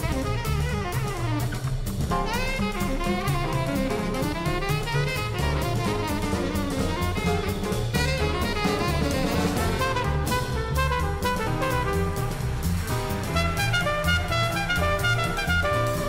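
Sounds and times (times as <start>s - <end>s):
drum kit: 0.0s - 16.0s
jazz music: 0.0s - 16.0s
saxophone melody: 0.0s - 16.0s.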